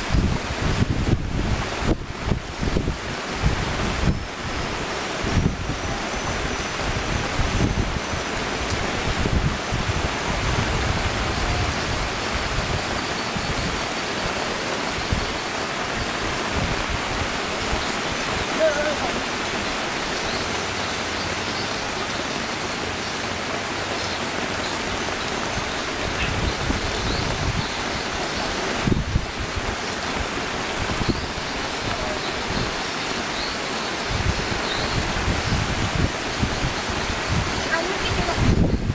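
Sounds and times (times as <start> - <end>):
heavy rain: 0.0 - 38.9
waves rushing and churning: 0.0 - 38.9.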